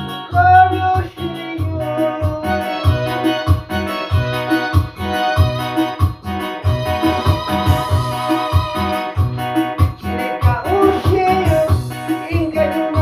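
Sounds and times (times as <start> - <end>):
keyboard melody notes: 0.0 - 13.0
steady bass beat: 0.0 - 13.0.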